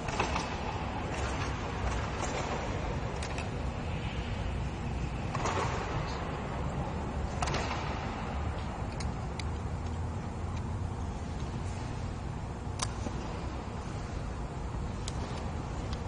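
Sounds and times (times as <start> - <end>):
sports hall room noise: 0.0 - 16.0.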